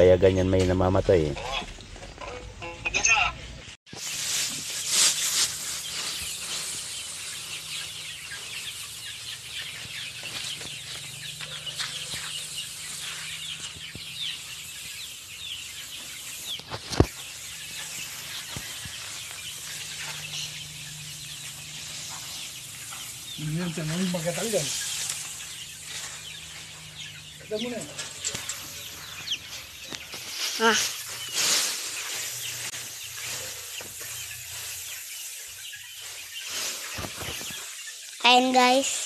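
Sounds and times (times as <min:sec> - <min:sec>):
chicks peeping: 0:03.1 - 0:39.0.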